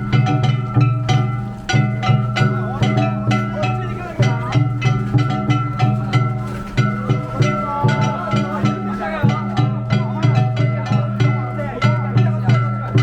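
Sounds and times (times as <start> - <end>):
drums: 0.0 - 13.0
plucked string festival music: 0.0 - 13.0.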